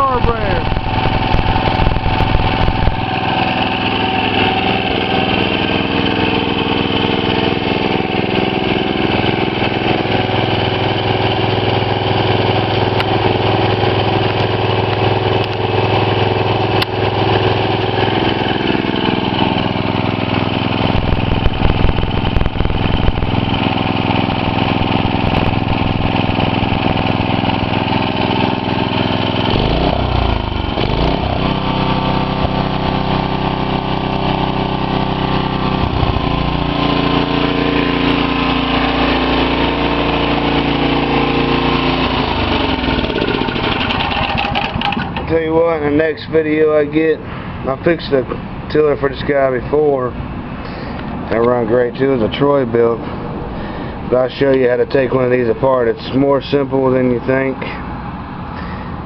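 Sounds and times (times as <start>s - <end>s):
small gasoline engine running: 0.0s - 59.0s.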